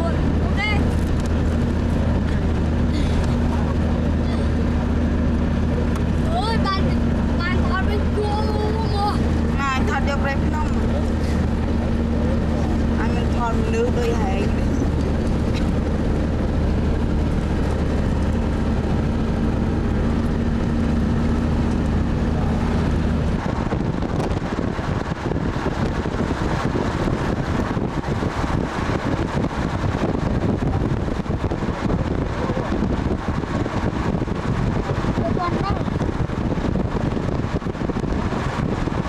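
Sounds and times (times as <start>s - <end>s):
road rumble: 0.0s - 39.0s
vehicle engine hum: 0.0s - 39.0s
wind noise on microphone: 0.0s - 39.0s.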